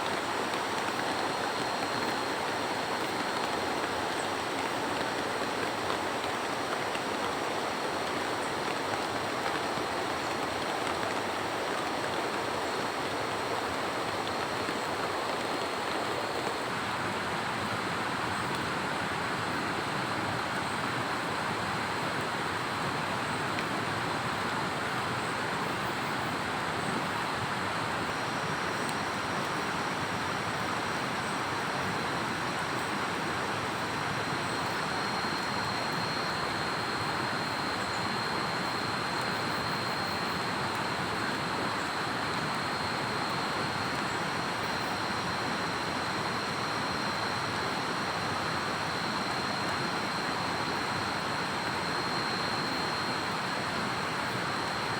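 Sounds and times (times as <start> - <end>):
thin high steady whine: 0.0 - 54.9.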